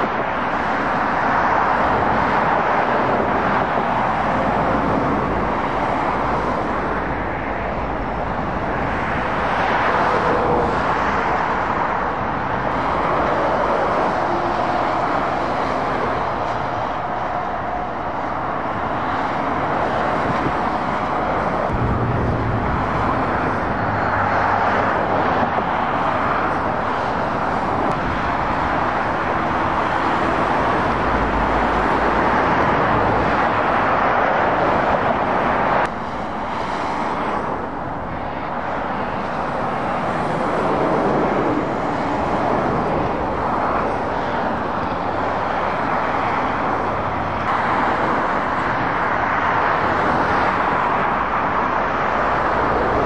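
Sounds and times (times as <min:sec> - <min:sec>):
lorry diesel engine hum: 0:00.0 - 0:53.0
traffic tyre roar: 0:00.0 - 0:53.0.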